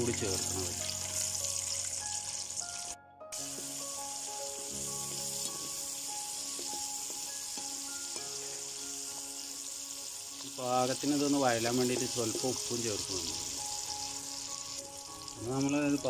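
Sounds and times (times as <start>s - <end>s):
shallots sizzling in hot oil: 0.0s - 16.0s
soft background music: 0.0s - 16.0s.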